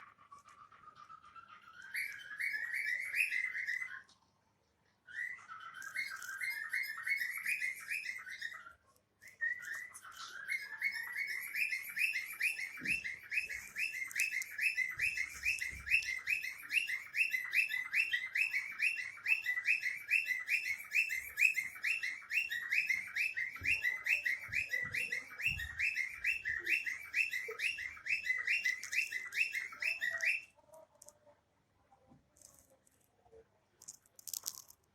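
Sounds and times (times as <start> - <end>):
cockatiel whistling and chirping: 0.1 - 4.2, 5.0 - 30.5.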